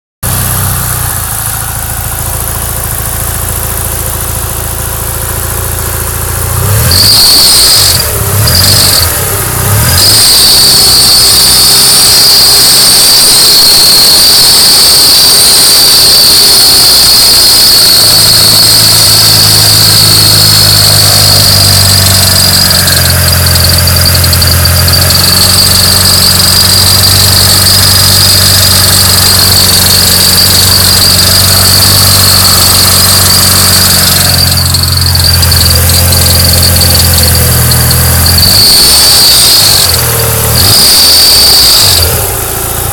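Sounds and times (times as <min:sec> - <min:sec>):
car engine revving: 0:00.2 - 0:42.9
high-pitched belt squeal: 0:06.8 - 0:42.9.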